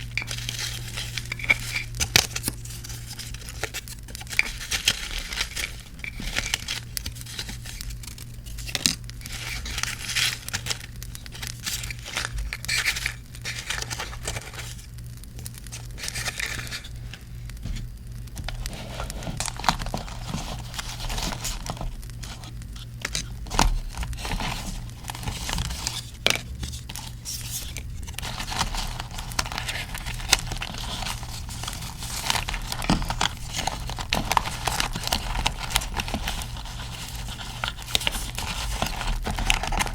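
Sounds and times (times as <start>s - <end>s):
paper crinkling and tearing: 0.0s - 39.9s.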